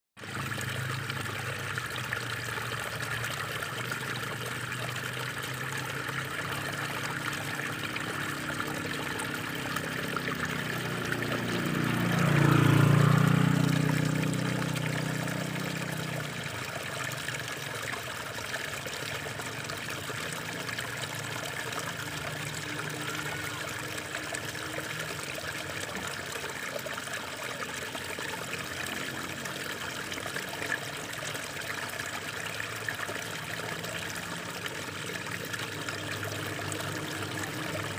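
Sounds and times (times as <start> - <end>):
water pouring into pool: 0.2 - 37.9.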